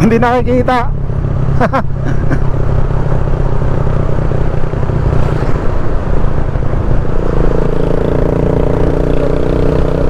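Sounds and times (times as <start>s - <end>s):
higher steady engine hum: 0.0s - 10.0s
motorcycle engine running: 0.0s - 10.0s
wind rushing over microphone: 0.0s - 10.0s.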